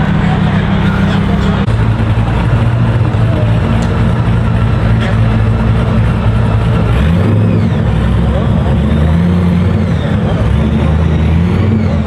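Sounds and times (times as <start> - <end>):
vehicle engine humming steadily: 0.0 - 12.0.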